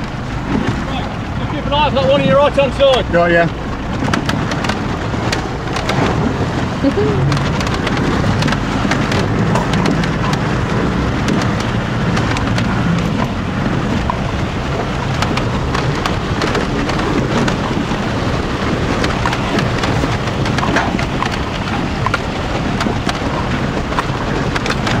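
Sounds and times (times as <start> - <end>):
vehicle knocks and rattles: 0.0 - 25.0
water rushing and splashing: 0.0 - 25.0.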